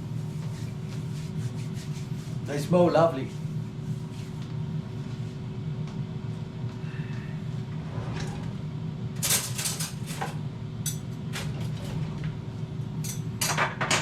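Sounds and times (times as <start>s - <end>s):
air fryer humming: 0.0s - 14.0s.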